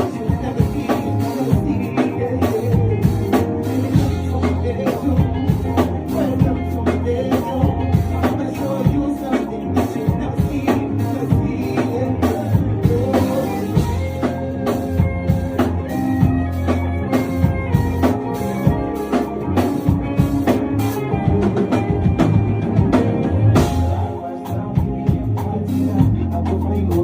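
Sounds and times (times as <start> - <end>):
bass and guitar playing: 0.0 - 27.0
drum kit beat: 0.0 - 27.0.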